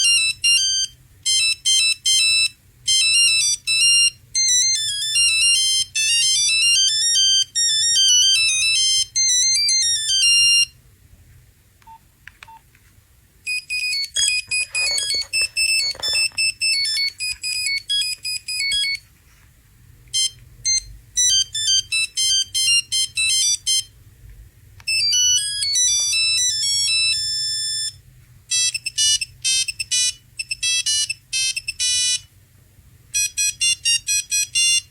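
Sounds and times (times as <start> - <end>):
mobile phone ringtones: 0.0 - 10.7, 13.5 - 19.0, 20.2 - 23.9, 24.9 - 32.3, 33.2 - 34.9.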